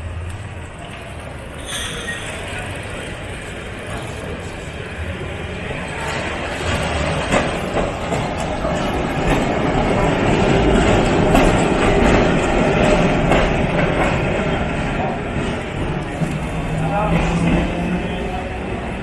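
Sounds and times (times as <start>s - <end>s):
tram running past: 0.0s - 19.0s
tram wheels clicking on rails: 0.0s - 19.0s.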